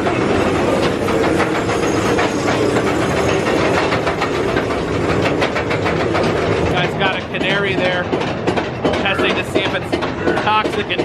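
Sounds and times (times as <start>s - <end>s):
train cars clattering on track: 0.0s - 11.0s.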